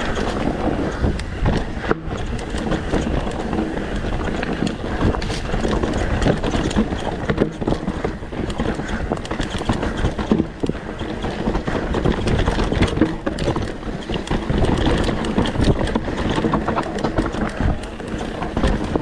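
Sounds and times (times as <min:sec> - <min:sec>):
bike chain and frame clattering: 0:00.0 - 0:19.0
tyres crunching over rocks: 0:00.0 - 0:19.0.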